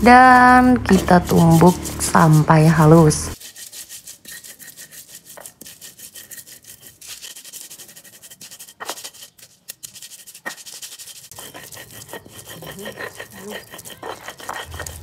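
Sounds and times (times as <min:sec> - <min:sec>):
stone pestle scraping mortar: 0:00.0 - 0:15.0.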